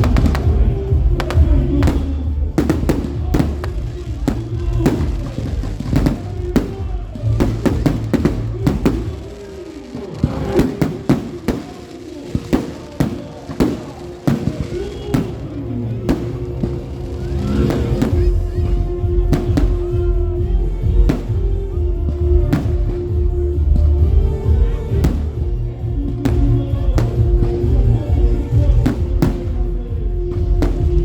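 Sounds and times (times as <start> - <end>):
music with deep bass: 0.0 - 9.2, 14.7 - 31.0
fireworks popping: 0.0 - 31.0.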